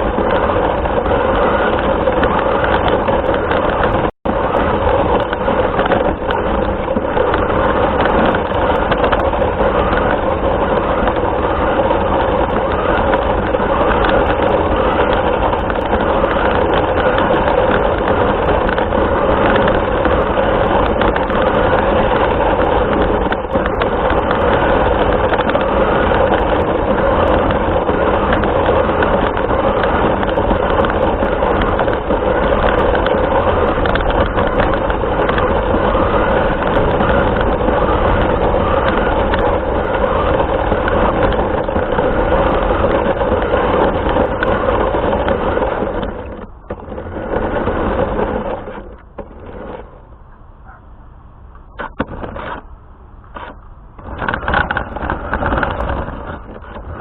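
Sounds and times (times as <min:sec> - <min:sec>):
motor and gear whine: 0:00.0 - 0:57.0
wheels rumbling on ground: 0:00.0 - 0:57.0.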